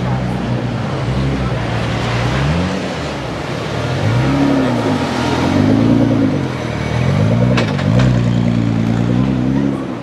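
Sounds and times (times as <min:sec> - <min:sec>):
car engine revving: 0:01.1 - 0:10.0.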